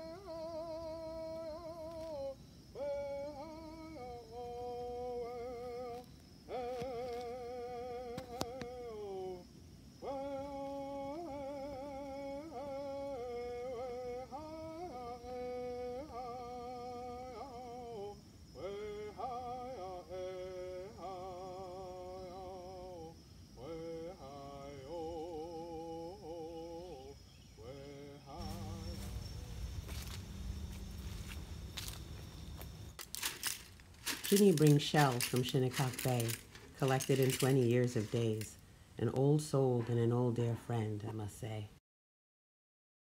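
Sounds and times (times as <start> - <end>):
man singing with vibrato: 0.0 - 32.2, 33.2 - 38.7.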